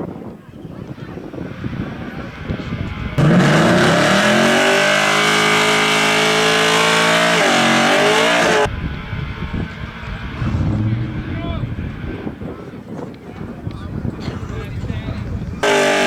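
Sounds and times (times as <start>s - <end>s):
racing engine at full throttle: 1.2s - 14.0s, 15.6s - 16.0s.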